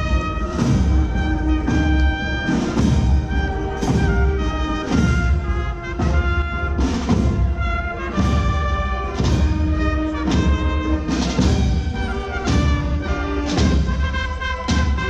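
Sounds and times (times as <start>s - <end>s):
heavy drum beats: 0.0s - 15.0s
held brass notes: 0.0s - 15.0s.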